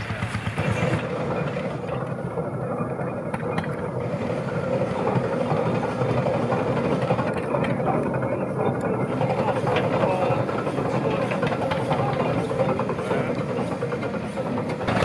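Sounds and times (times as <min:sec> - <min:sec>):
steam traction engine running: 0:00.0 - 0:15.0.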